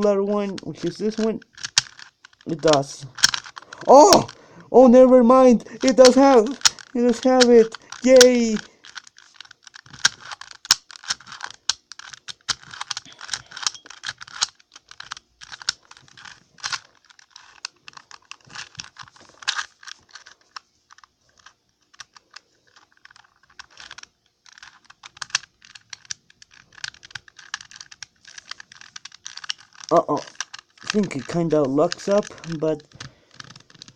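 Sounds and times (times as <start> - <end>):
puzzle cube clicking: 0.0 - 33.9.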